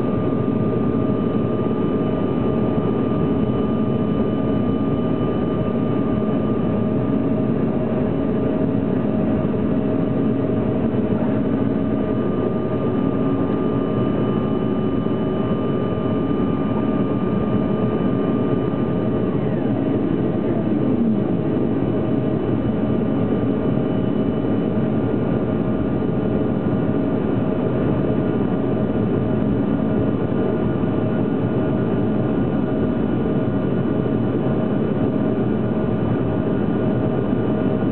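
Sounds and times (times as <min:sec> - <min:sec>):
faint whine tones: 0:00.0 - 0:37.9
jet engine drone: 0:00.0 - 0:37.9.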